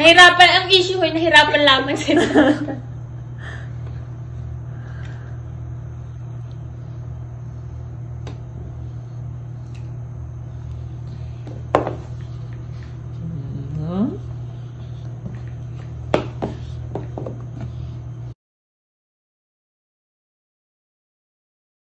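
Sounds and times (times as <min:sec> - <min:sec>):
low room hum: 0:00.0 - 0:18.4.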